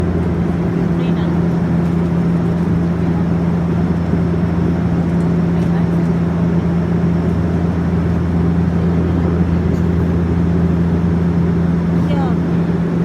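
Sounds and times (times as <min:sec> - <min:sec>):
jet cabin drone: 0:00.0 - 0:13.0.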